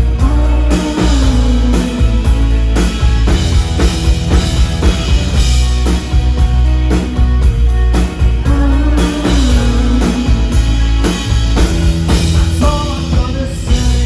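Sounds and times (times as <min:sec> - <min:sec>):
driving drum beat: 0:00.0 - 0:14.0
rock band playing: 0:00.0 - 0:14.0.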